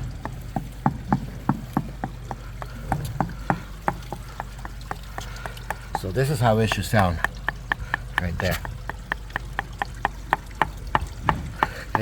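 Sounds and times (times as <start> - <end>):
rapid tapping on tiles: 0.2 - 12.0.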